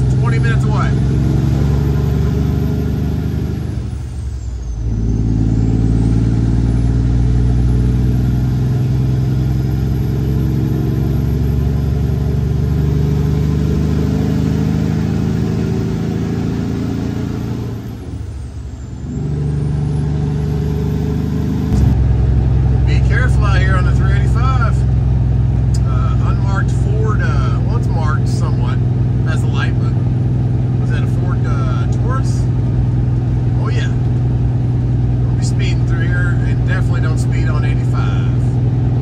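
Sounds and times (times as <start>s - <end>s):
truck diesel engine: 0.0s - 39.0s.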